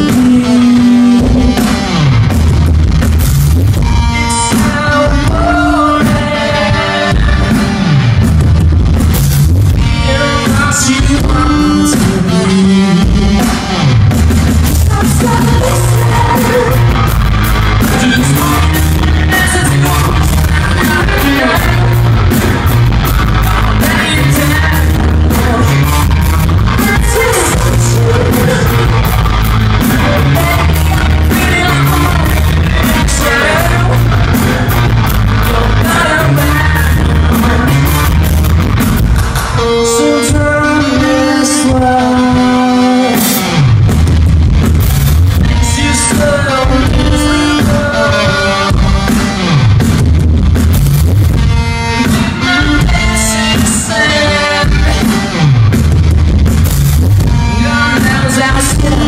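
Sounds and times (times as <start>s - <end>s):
man singing: 0.0s - 2.0s, 3.8s - 8.0s, 9.8s - 13.7s, 14.8s - 38.5s, 39.6s - 43.7s, 45.4s - 49.6s, 51.8s - 55.5s, 57.4s - 59.0s
bass guitar riff: 0.0s - 59.0s
drum kit: 0.0s - 59.0s.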